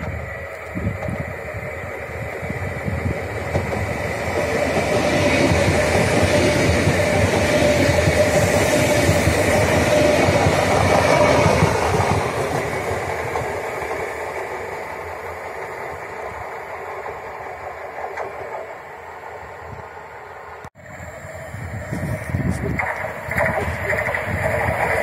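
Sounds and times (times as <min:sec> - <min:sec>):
train passing on rails: 0:00.0 - 0:25.0.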